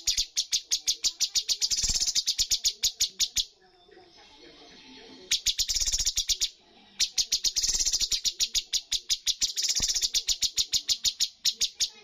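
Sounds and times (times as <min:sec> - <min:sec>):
songbird chattering bursts: 0:00.0 - 0:03.5, 0:05.3 - 0:12.0.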